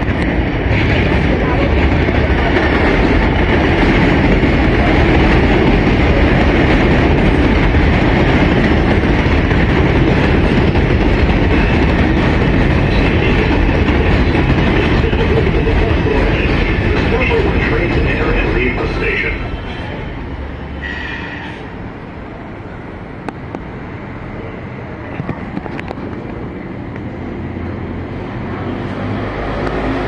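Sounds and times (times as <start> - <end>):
subway train rumbling on tracks: 0.0 - 30.0.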